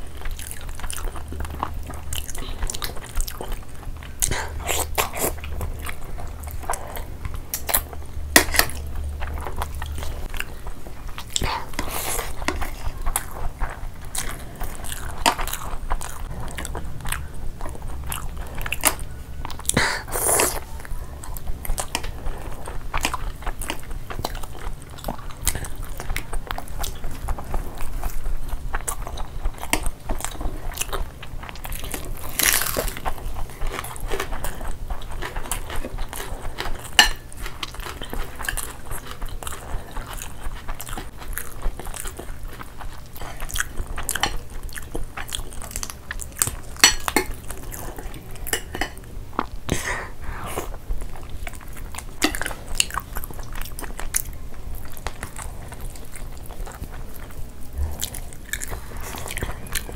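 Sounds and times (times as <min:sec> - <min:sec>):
people chewing with mouth clicks: 0:00.0 - 0:59.9.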